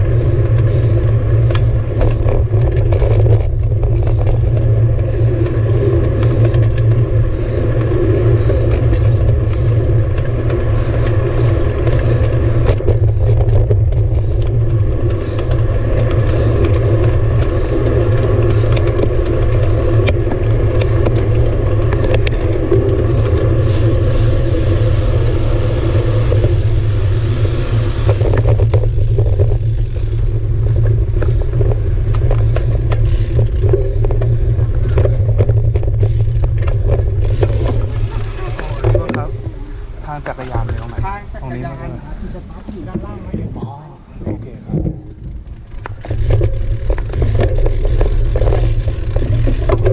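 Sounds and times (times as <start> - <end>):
faint ticks and rattles: 0.0 - 49.9
wind and road noise: 0.0 - 49.9.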